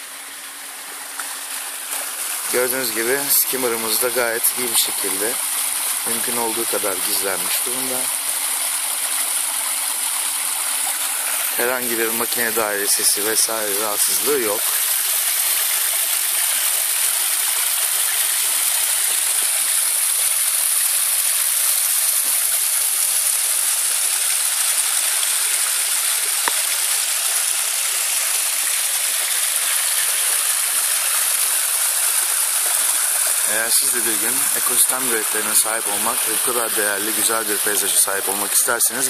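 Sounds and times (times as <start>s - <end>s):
water splashing down rocks: 0.6s - 39.0s.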